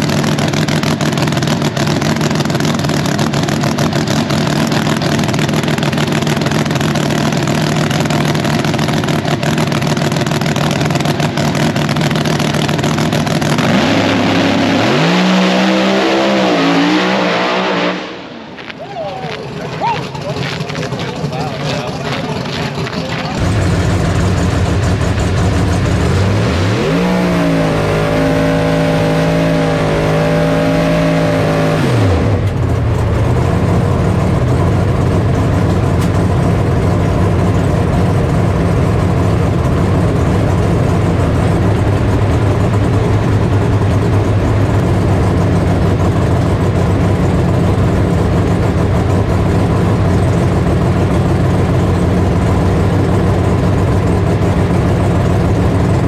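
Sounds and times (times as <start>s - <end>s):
car engine idling: 0.0s - 15.1s, 18.2s - 56.0s
car engine revving: 0.0s - 56.0s.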